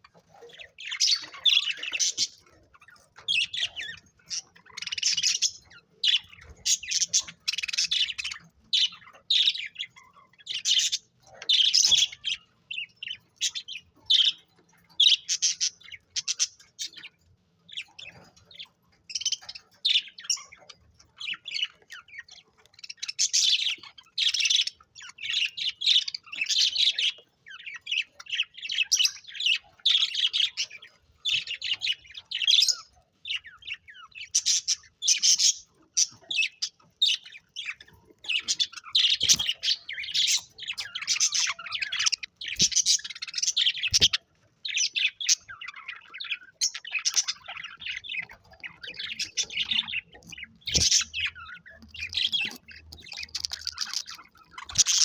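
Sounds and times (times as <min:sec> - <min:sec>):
budgies chirping and chattering: 0:00.0 - 0:55.0.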